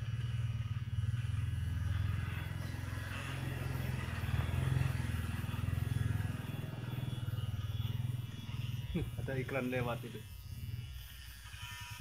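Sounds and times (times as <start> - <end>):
electric hair clipper humming: 0.0 - 12.0.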